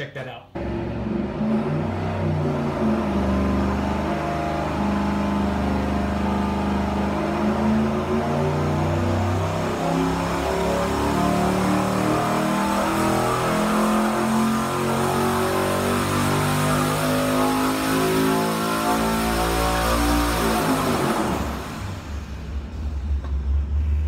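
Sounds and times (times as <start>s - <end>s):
car engine running on a dyno: 0.6s - 24.0s.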